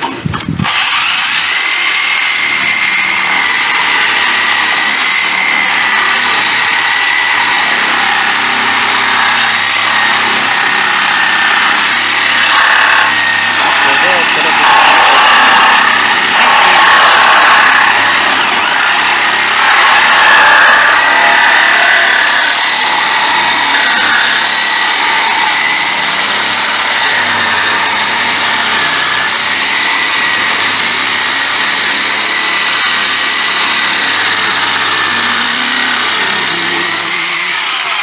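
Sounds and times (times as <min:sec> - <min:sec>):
reciprocating saw cutting metal: 0:00.0 - 0:38.0.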